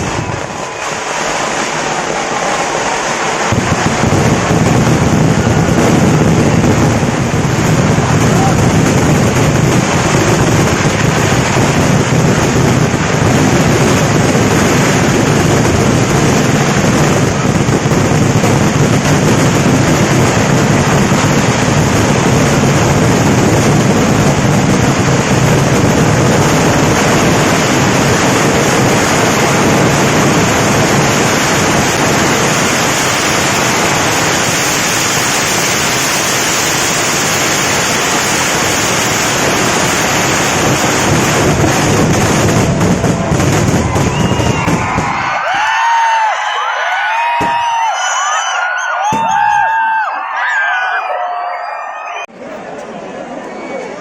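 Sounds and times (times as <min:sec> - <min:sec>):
fireworks barrage: 0:00.0 - 0:52.6.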